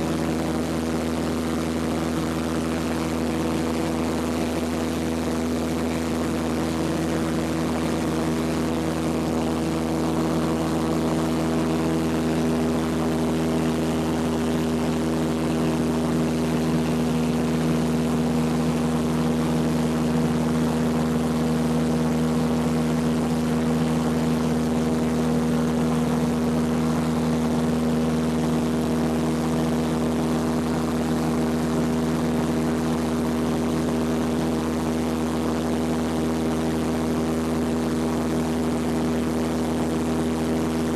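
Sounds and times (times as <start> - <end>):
light aircraft engine and propeller: 0.0 - 40.9.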